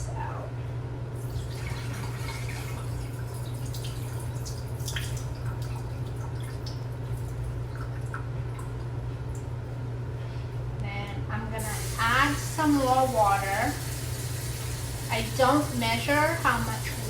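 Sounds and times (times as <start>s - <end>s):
steady low hum: 0.0s - 17.0s
water dripping and splashing: 1.2s - 9.7s, 11.6s - 17.0s.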